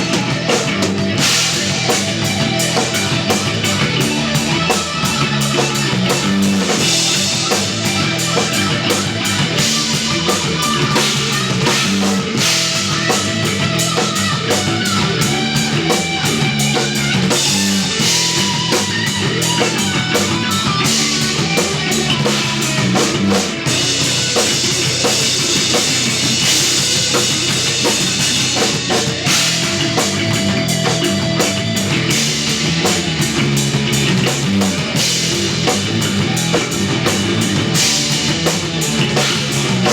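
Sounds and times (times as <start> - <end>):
drum kit with cymbals: 0.0 - 39.9
electric bass: 0.0 - 39.9
electric guitar: 0.0 - 39.9.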